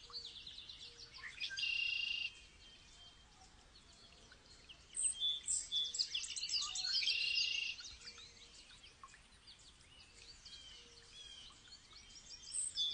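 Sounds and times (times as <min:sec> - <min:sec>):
songbirds chirping and trilling: 0:00.0 - 0:12.9.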